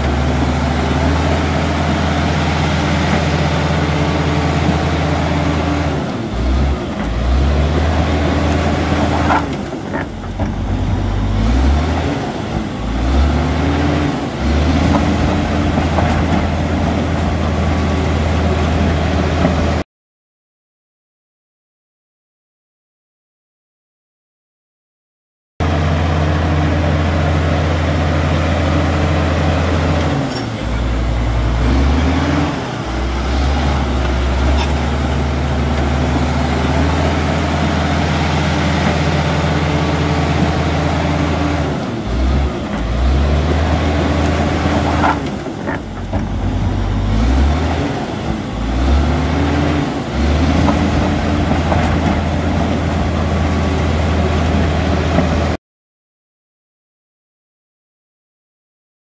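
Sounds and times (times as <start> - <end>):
bulldozer diesel engine running: 0.0 - 19.8, 25.6 - 55.6.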